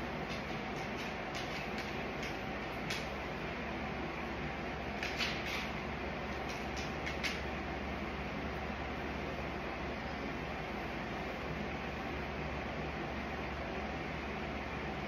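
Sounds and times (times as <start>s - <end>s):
background hiss and hum: 0.0s - 15.0s.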